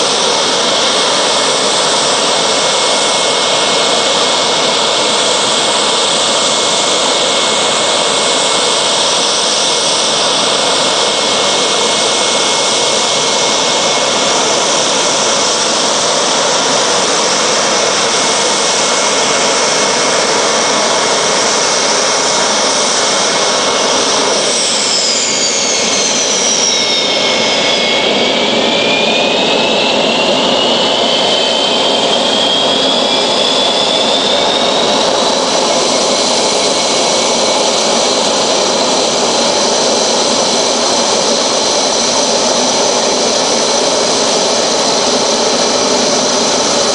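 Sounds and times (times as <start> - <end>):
jet engines roaring with whine: 0.0 - 46.9.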